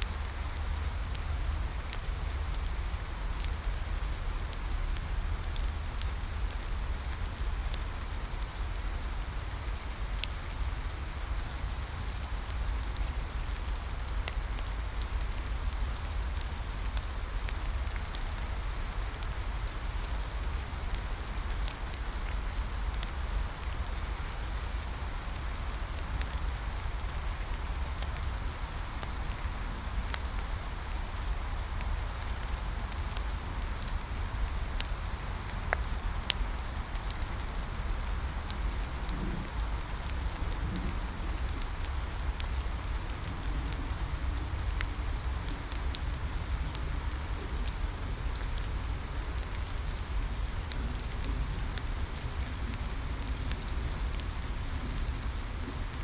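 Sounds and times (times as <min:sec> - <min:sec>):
bonfire crackling and popping: 0:00.0 - 0:56.0
steady rain falling: 0:00.0 - 0:56.0.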